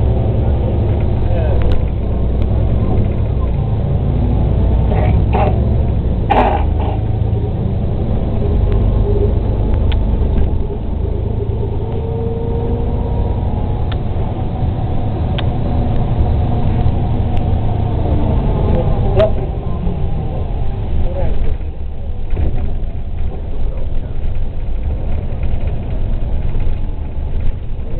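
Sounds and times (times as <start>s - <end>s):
bus engine and road rumble: 0.0s - 27.9s.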